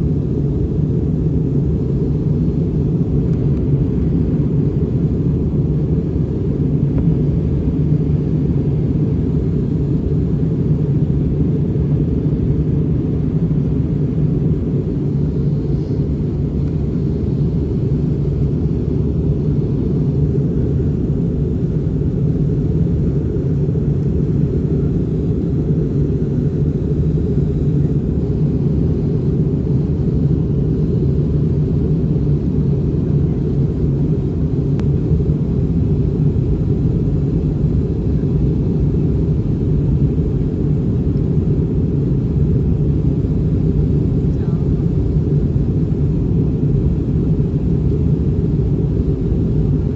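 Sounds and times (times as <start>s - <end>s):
airliner cabin drone: 0.0s - 49.9s.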